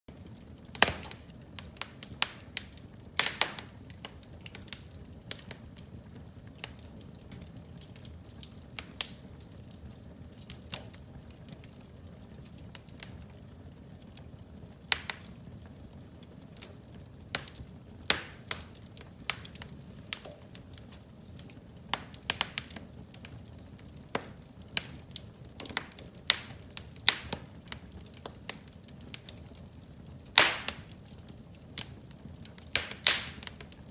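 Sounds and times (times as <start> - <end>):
fire crackling and popping: 0.1 - 33.9
low fire rumble: 0.1 - 33.9.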